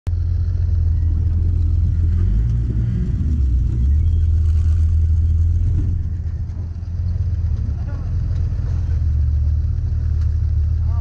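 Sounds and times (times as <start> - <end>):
engine running at low revs: 0.1 - 11.0.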